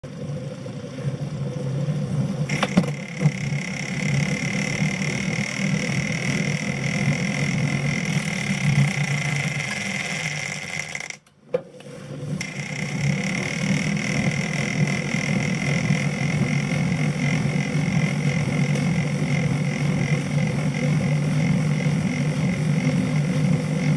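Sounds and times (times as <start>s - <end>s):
bike trainer low hum: 0.0s - 23.9s
high whine: 0.0s - 23.9s.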